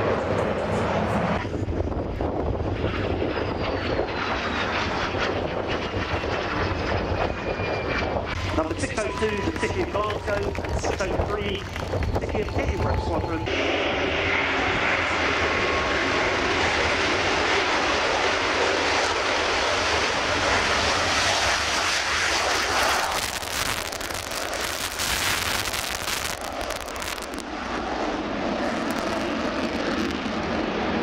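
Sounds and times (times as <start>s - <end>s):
jet fighter taking off: 0.0s - 31.0s.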